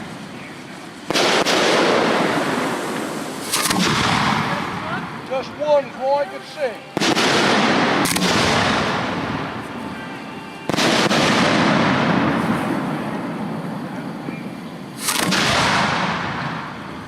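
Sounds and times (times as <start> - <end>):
fireworks booming: 0.0 - 17.0
rolling echo of booms: 0.9 - 5.8, 6.9 - 10.0, 10.6 - 17.0.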